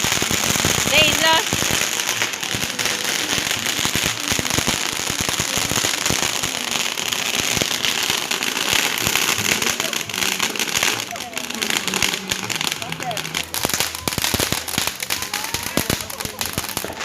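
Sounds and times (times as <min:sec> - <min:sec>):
firecrackers and fireworks bangs: 0:00.0 - 0:17.0.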